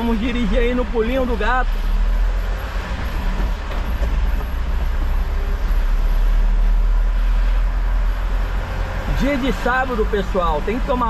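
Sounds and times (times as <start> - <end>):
bus engine droning: 0.0 - 11.0
road noise: 0.0 - 11.0.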